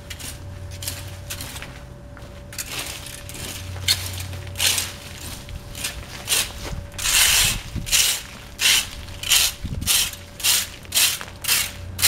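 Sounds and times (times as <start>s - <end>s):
rake scraping debris: 0.0s - 12.0s.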